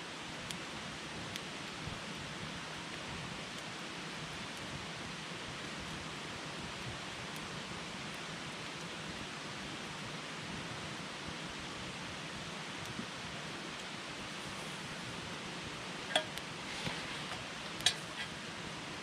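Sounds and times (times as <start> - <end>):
campfire burning: 0.0 - 19.0.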